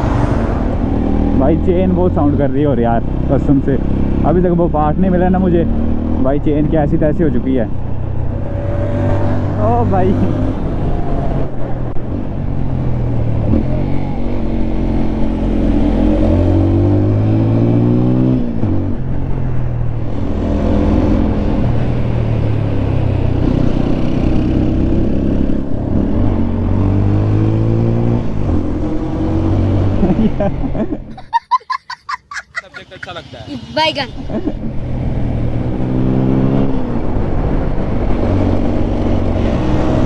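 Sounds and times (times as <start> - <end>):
motorcycle engine accelerating: 0.0 - 31.1, 33.6 - 40.0.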